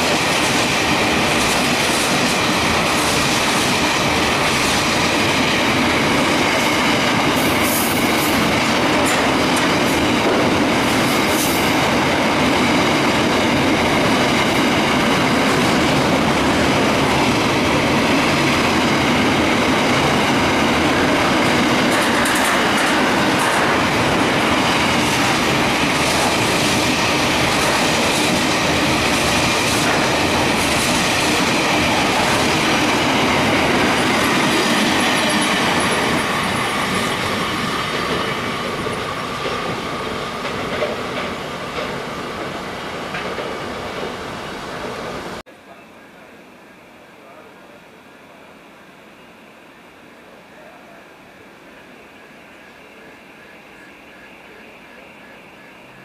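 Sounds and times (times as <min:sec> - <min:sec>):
freight train wheels rushing on rail: 0:00.0 - 0:56.0.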